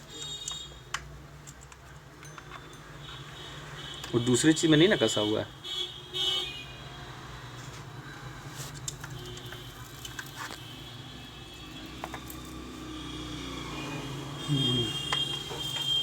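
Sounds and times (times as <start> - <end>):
road traffic rumble: 2.7 - 16.0.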